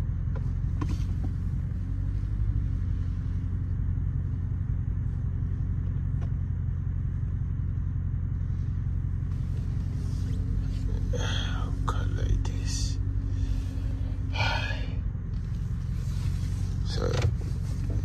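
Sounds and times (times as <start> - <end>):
car engine deep rumble: 0.0 - 18.0.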